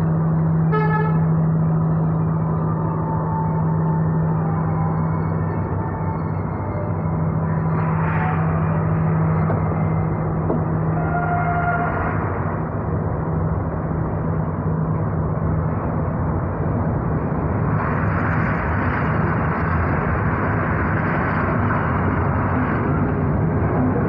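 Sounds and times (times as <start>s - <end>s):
low train engine hum: 0.0s - 24.0s
wheels rumbling on rails: 0.0s - 24.0s.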